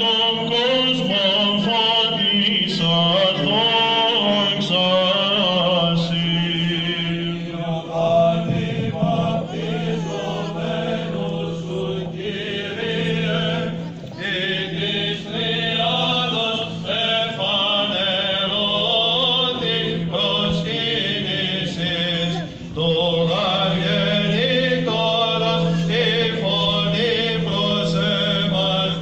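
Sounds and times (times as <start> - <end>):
low held vocal drone: 0.0 - 29.0
voices chanting a melody: 0.0 - 29.0.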